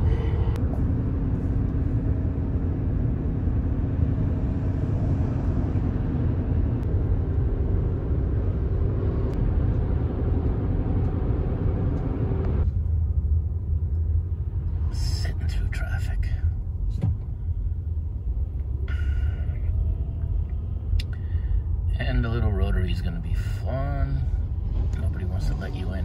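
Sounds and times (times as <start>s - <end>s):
engine and road rumble: 0.0s - 26.0s.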